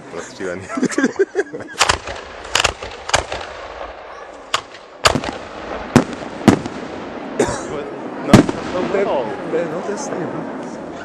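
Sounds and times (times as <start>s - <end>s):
fireworks bangs: 1.7s - 11.0s.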